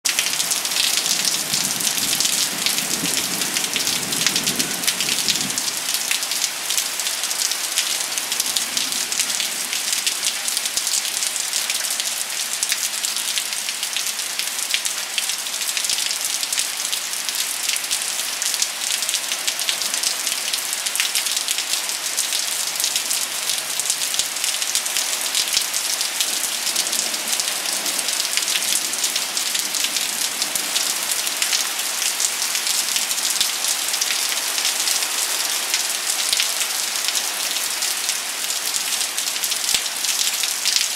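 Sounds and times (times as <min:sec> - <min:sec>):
steady rain falling: 0:00.1 - 0:40.9.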